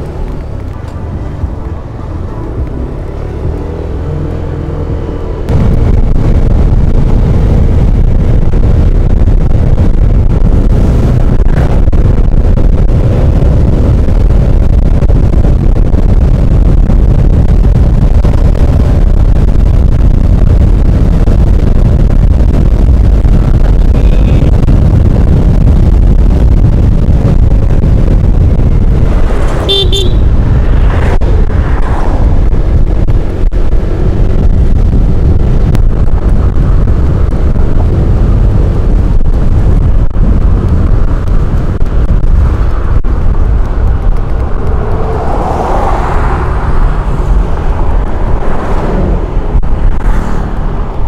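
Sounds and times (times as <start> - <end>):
wind roaring on microphone: 0.0 - 51.0.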